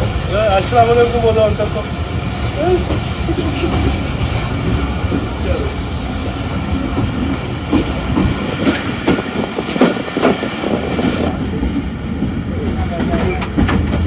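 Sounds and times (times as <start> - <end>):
train coach rumbling: 0.0 - 14.0
wheels clacking over rail joints: 0.0 - 14.0.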